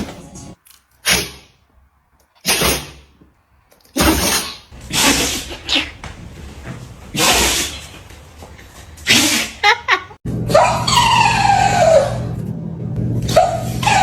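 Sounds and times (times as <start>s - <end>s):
dogs sneezing: 0.0s - 1.6s, 2.4s - 3.1s, 3.9s - 12.2s, 13.2s - 14.0s.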